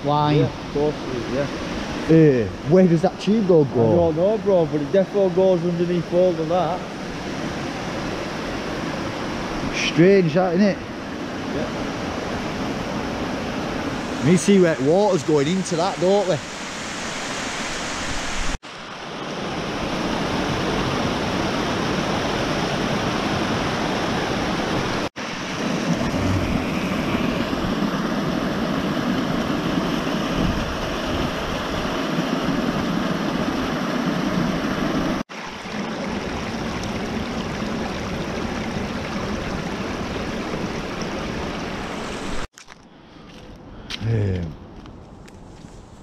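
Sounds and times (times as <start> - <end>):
stream rushing over rocks: 0.1 - 42.5.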